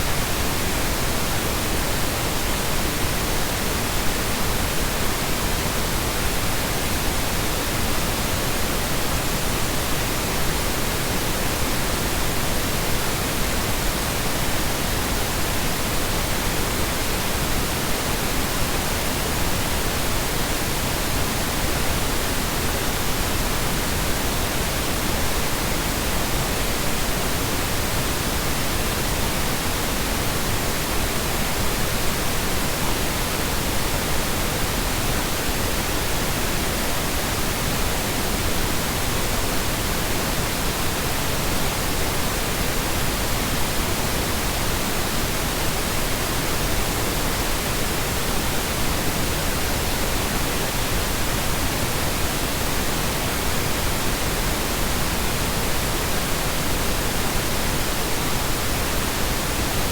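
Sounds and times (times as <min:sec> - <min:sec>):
continuous even hiss: 0:00.0 - 0:59.9.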